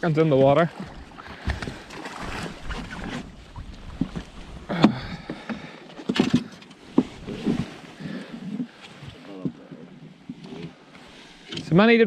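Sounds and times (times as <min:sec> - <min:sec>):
knocks and clunks in a boat: 0:00.0 - 0:12.0.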